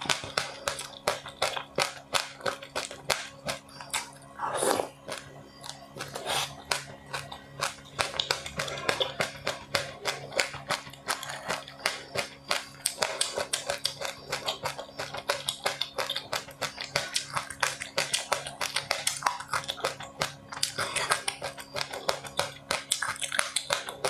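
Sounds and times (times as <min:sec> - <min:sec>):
crunching and chewing snacks: 0:00.0 - 0:24.0.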